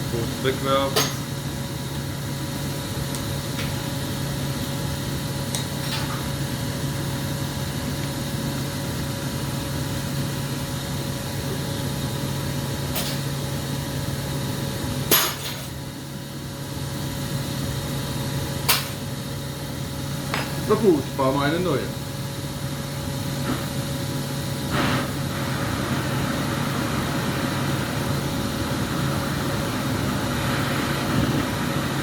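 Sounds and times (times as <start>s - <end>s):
workshop hum: 0.0s - 32.0s.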